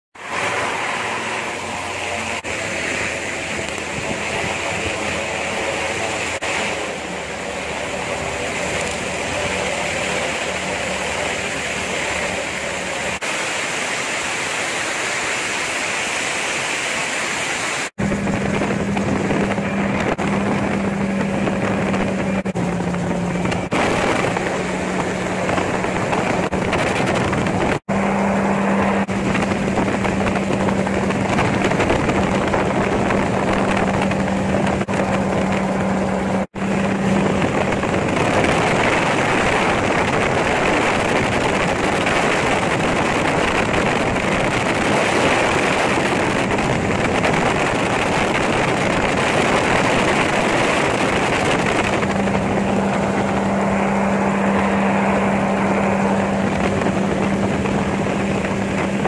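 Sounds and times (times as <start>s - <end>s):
gyrocopter engine running: 0.2s - 13.3s, 18.0s - 59.0s
heavy wind noise: 0.2s - 59.0s.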